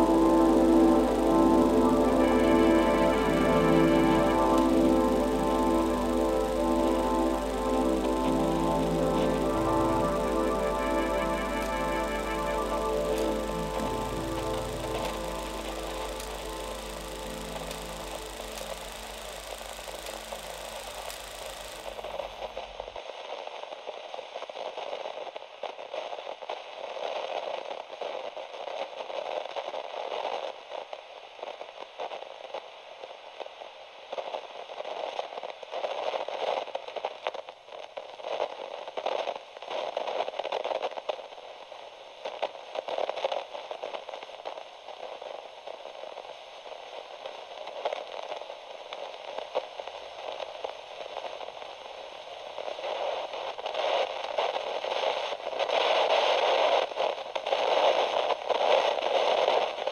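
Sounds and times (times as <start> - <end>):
crackling static: 0.0 - 59.9.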